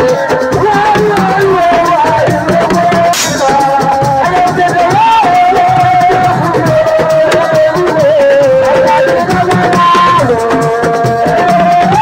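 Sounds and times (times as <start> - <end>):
drums and rattles: 0.0 - 12.0.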